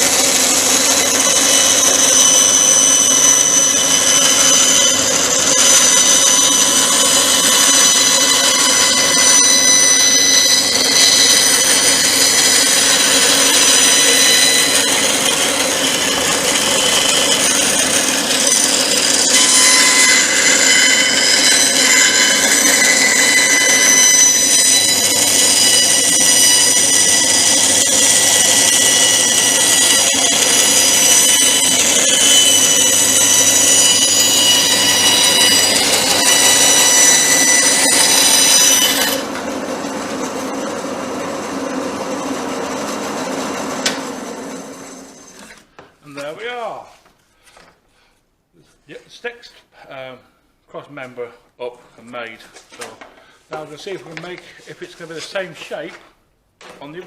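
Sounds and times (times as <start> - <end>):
power saw motor whine: 0.0 - 45.7
saw cutting wood: 0.0 - 46.4.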